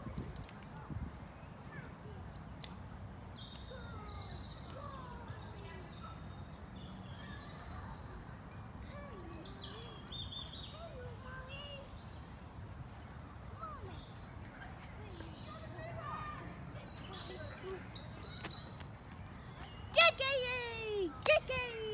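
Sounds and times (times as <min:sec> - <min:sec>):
songbirds singing: 0:00.0 - 0:21.9.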